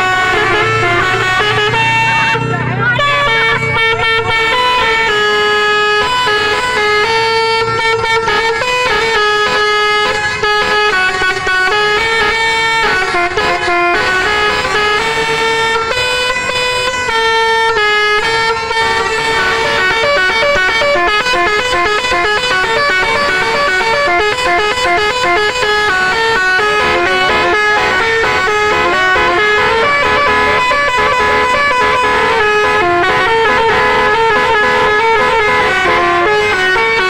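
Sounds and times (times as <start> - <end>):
multi-tone air horn melody: 0.0 - 37.0.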